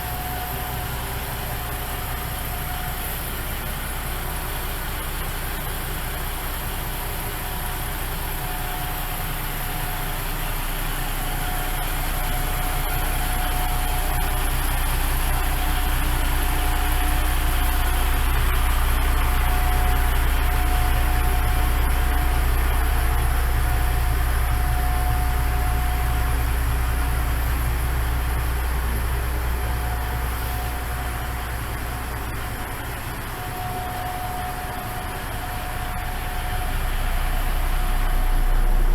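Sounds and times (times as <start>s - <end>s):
railcar diesel engine drone: 0.0s - 38.9s
thin steady whine: 0.0s - 38.9s.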